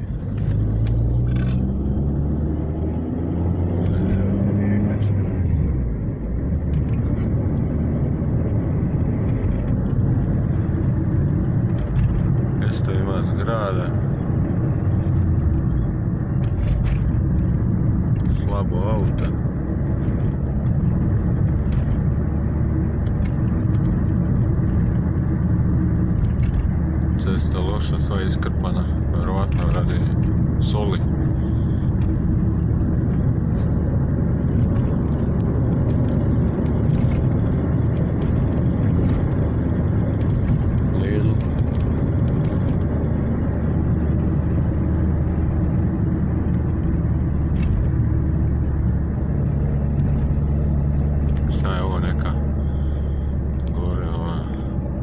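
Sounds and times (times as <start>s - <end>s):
car driving rumble inside cabin: 0.0s - 55.0s.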